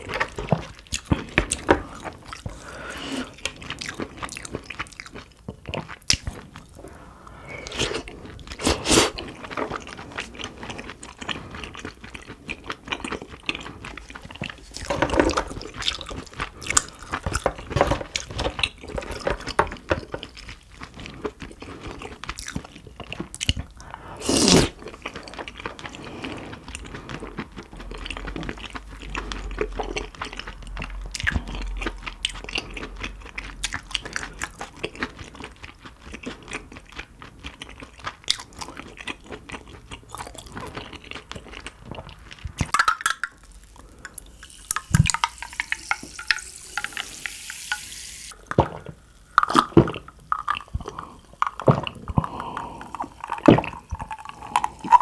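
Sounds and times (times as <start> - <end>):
chewing: 0.0 - 7.0, 7.6 - 46.9, 48.3 - 55.0.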